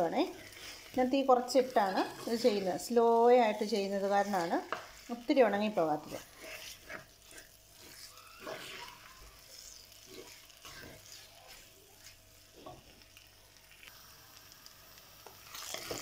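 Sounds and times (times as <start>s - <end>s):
wooden spatula scraping: 0.0s - 13.0s, 15.5s - 16.0s
meat sizzling in oil: 0.0s - 16.0s.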